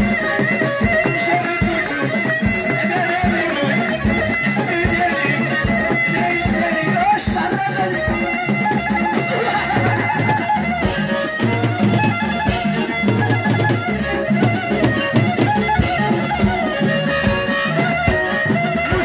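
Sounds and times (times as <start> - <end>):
amplified violin melody: 0.0 - 19.0
frame drums beating: 0.0 - 19.0.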